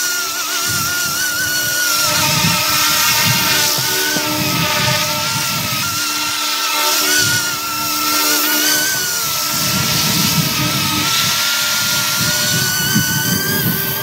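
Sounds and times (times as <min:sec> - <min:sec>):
toy helicopter motor whine: 0:00.0 - 0:14.0.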